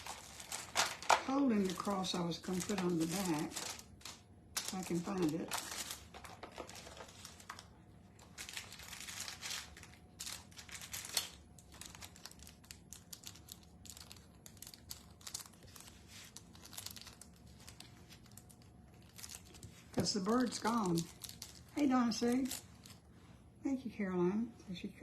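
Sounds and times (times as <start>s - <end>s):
plastic packaging rustling: 0.0s - 23.3s.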